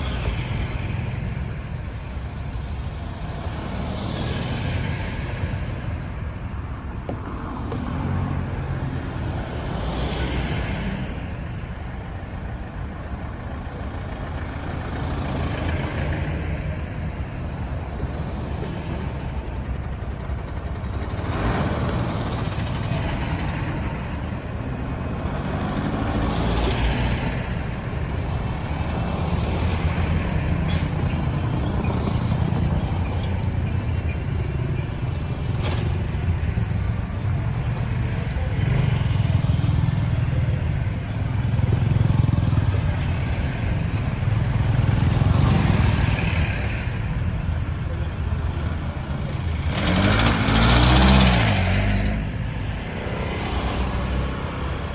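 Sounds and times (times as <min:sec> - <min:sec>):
vehicles passing by: 0:00.0 - 0:54.9.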